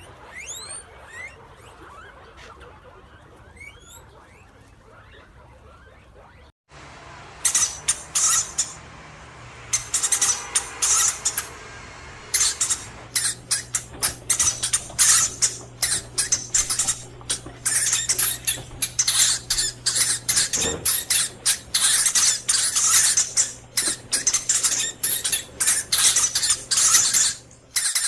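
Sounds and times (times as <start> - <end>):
hamster squeaking and chattering: 0.0 - 6.5, 7.4 - 8.8, 9.7 - 11.6, 12.3 - 28.0.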